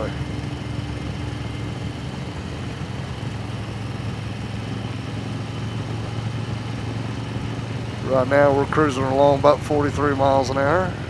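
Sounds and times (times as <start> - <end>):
motorcycle engine cruising: 0.0 - 11.0
road noise: 0.0 - 11.0.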